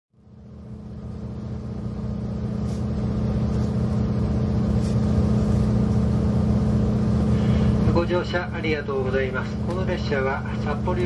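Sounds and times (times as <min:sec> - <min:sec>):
diesel railcar engines idling: 0:00.2 - 0:11.0.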